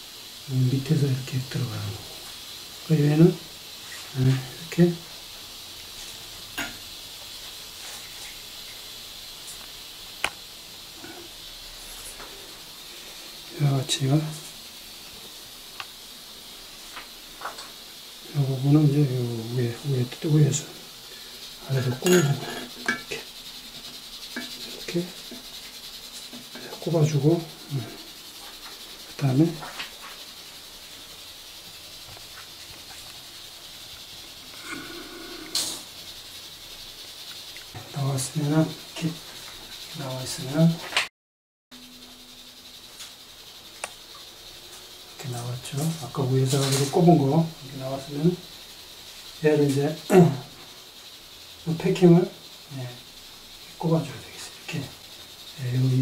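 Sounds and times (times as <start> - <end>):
faint steady hiss: 0.0 - 41.1, 41.7 - 56.0.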